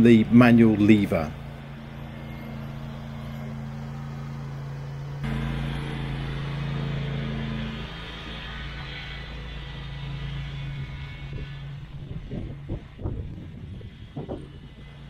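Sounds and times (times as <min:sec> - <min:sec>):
lawn tractor engine running: 0:00.0 - 0:15.0.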